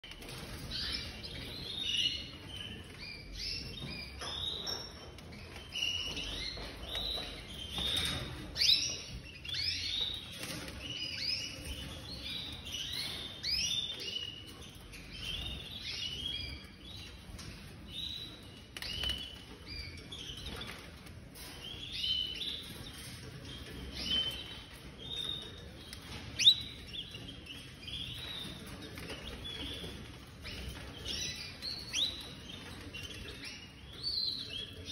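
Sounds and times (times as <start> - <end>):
canaries chirping: 0.0 - 34.9.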